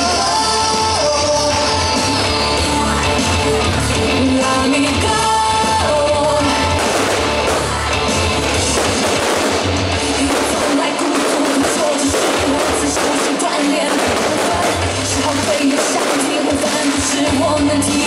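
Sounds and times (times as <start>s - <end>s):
music with singing: 0.0s - 18.0s.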